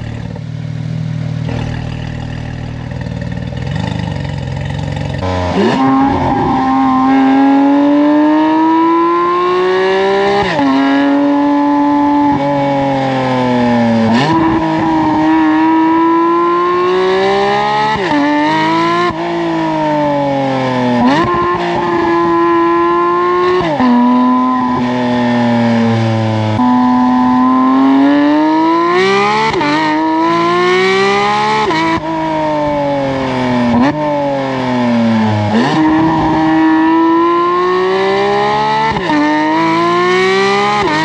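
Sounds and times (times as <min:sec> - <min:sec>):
sports car engine revving: 0:00.0 - 0:41.0.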